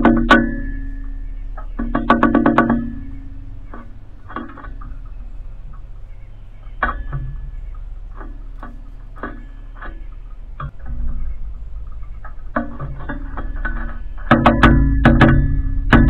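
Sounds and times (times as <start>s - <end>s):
plucked guitar-like music: 0.0s - 16.0s.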